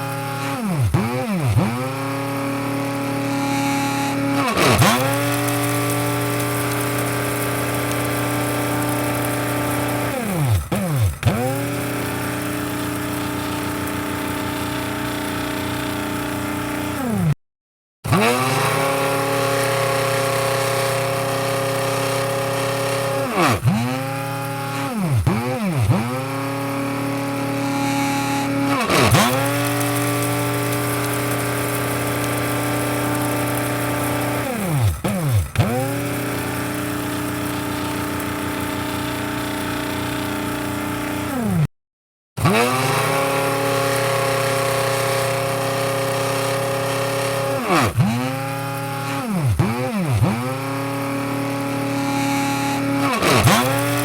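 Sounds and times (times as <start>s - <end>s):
electric coffee grinder motor: 0.0s - 17.4s, 18.1s - 41.7s, 42.4s - 54.0s.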